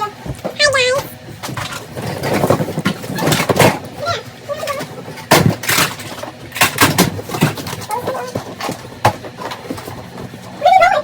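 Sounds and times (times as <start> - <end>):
toys clattering and knocking: 0.3 - 10.5.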